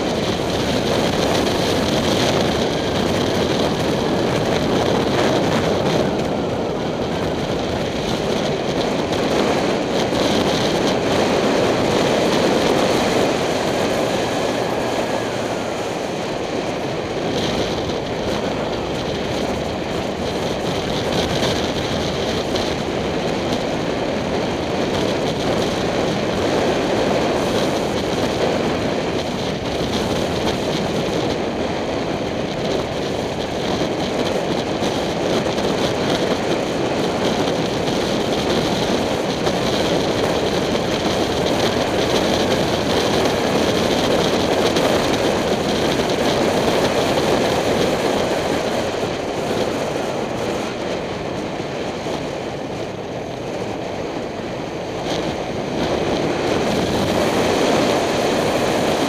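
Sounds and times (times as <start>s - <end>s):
road noise: 0.0s - 59.0s
wind rush: 0.0s - 59.0s.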